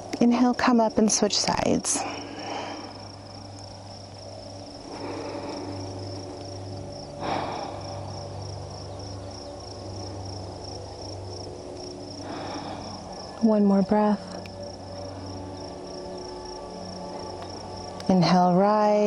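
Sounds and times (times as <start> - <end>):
insects chirring: 0.0 - 19.0
low steady hum: 0.0 - 19.0.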